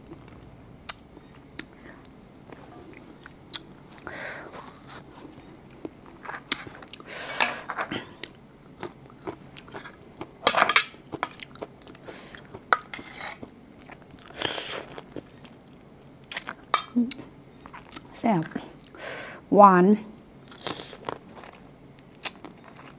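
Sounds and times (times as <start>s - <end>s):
person crunching and chewing: 0.1s - 16.9s, 20.4s - 22.9s.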